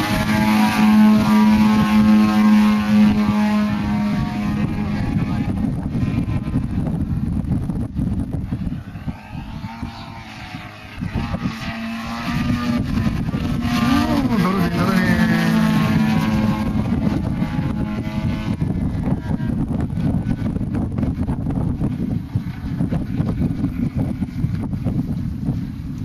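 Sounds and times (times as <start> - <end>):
model plane engine droning: 0.0 - 26.0
wind rumble on microphone: 0.0 - 26.0.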